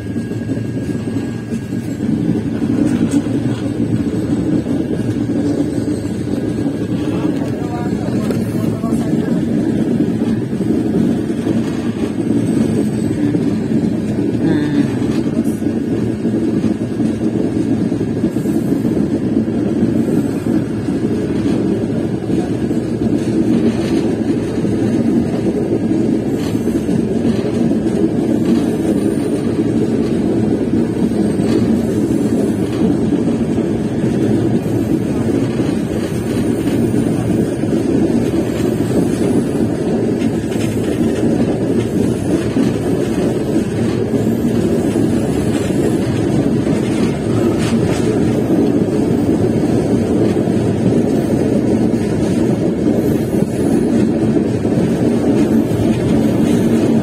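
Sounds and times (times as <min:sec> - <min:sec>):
train rumbling inside carriage: 0:00.0 - 0:57.0.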